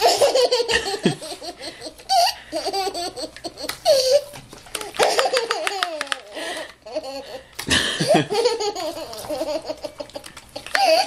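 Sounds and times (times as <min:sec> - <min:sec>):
toddler laughing: 0:00.0 - 0:11.0.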